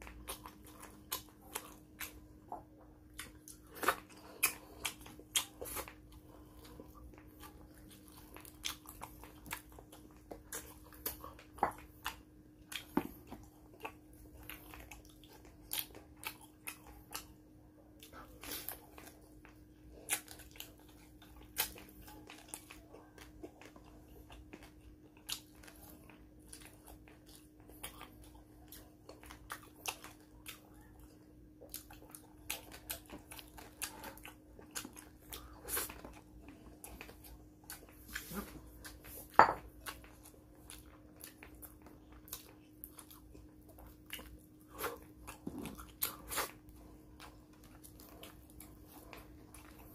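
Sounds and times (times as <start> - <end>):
person chewing with wet smacks: 0.0 - 49.9.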